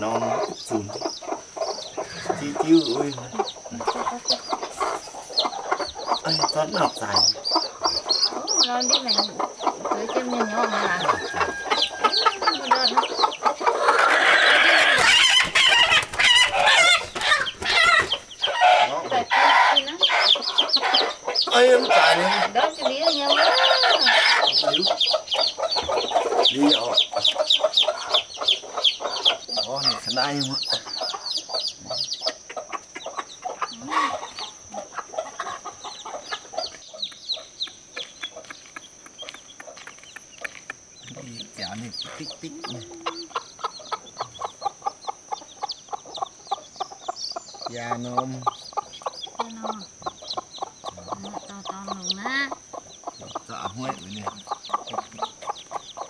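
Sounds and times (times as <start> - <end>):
chickens clucking and cheeping: 0.0 - 56.0.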